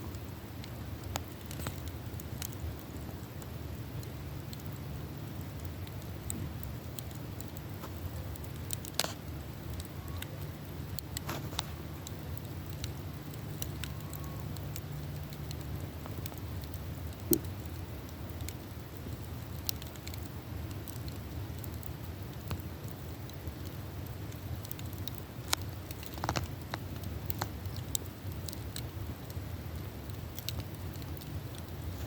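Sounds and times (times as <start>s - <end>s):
campfire pops and crackles: 0.0s - 32.0s
fire low rumble: 0.0s - 32.0s.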